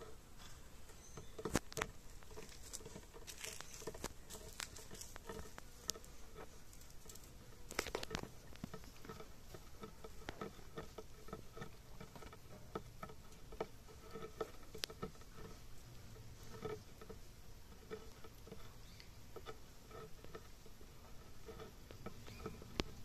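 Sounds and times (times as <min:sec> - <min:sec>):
puppy gnawing on wood: 0:01.0 - 0:23.0.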